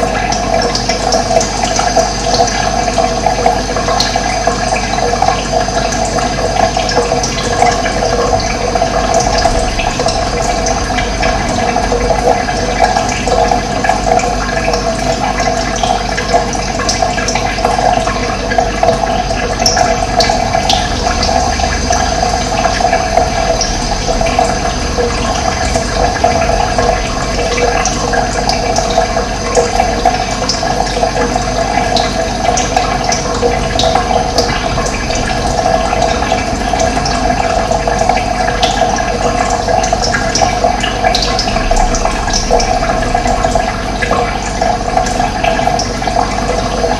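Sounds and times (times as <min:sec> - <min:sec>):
running water: 0:00.0 - 0:46.9.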